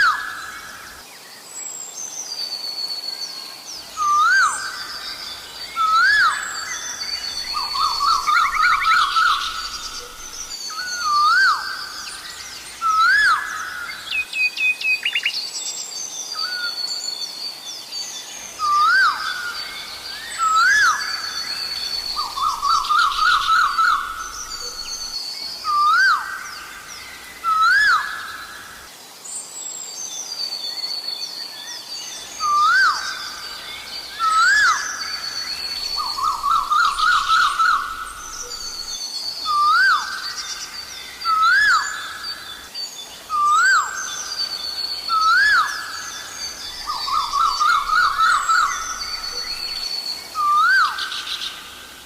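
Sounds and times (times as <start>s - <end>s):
birds singing: 0.0s - 28.9s, 29.9s - 52.0s
bird calling rising whistled notes: 2.3s - 15.4s, 18.6s - 28.9s, 30.4s - 51.9s.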